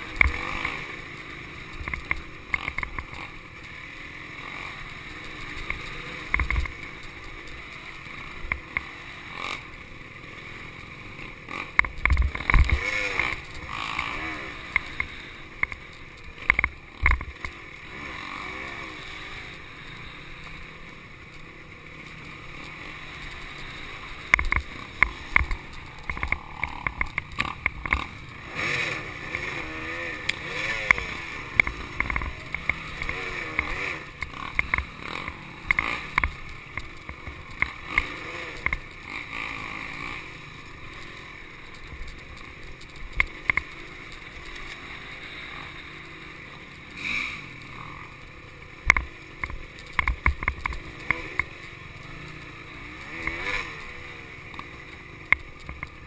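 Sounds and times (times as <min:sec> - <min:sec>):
bike knocking and rattling on bumps: 0:00.0 - 0:56.0
dirt bike engine revving: 0:00.0 - 0:56.0.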